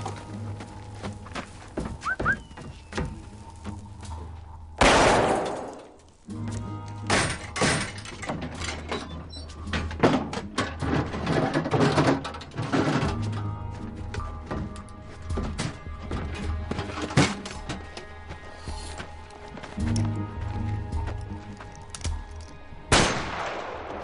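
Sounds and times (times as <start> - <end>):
dramatic film score music: 0.0 - 24.0.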